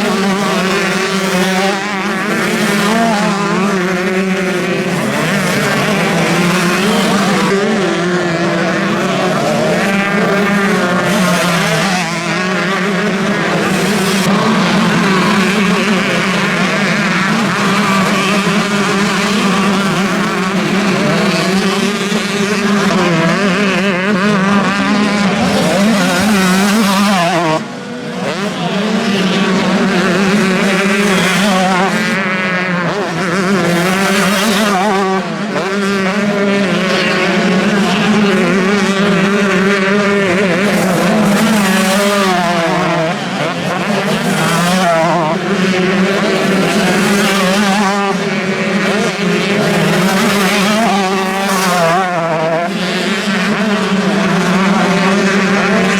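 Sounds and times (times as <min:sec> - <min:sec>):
motocross bike engines revving: 0:00.0 - 0:55.9.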